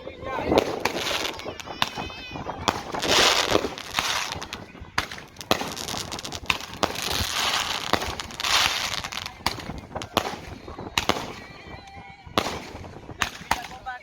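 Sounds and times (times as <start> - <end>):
firecracker cracks: 0.0 - 14.0
fireworks hissing spray: 0.0 - 14.0.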